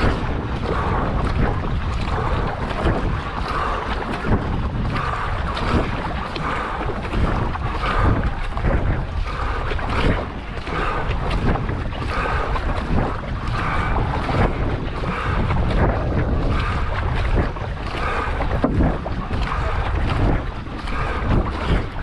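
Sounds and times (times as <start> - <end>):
paddle strokes splashing: 0.0 - 22.0
wind on microphone: 0.0 - 22.0.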